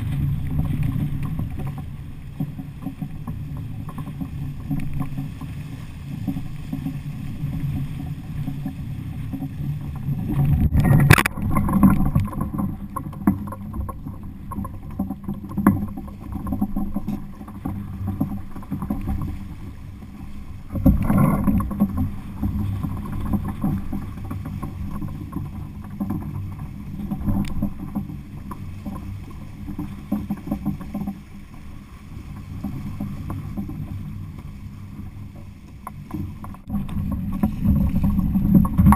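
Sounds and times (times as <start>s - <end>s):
water rushing along boat hull: 0.0s - 38.9s.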